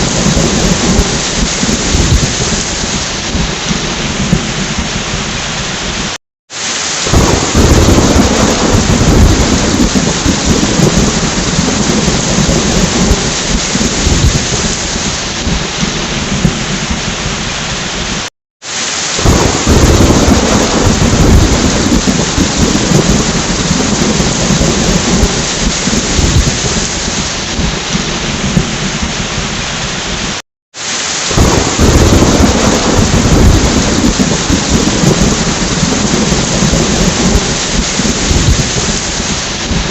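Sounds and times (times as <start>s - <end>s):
rolling thunder: 0.0s - 6.2s, 7.0s - 18.2s, 19.2s - 30.3s, 31.2s - 39.9s
heavy rain: 0.0s - 39.9s.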